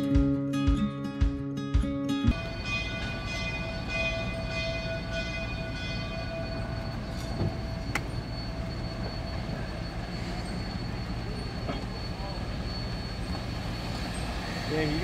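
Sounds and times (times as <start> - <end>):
steam locomotive rumble and hiss: 2.3 - 15.0
thin high whine: 2.3 - 15.0.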